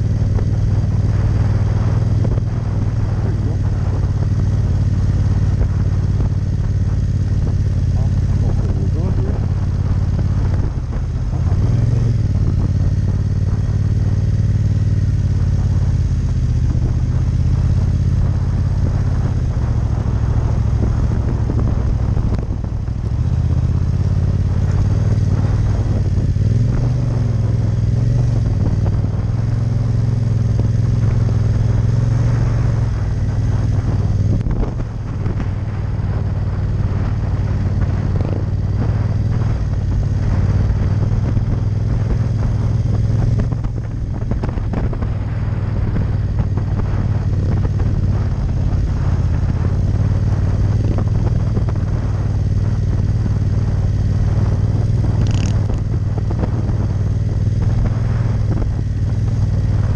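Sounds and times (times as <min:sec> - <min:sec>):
motorcycle engine at low revs: 0:00.0 - 0:59.9.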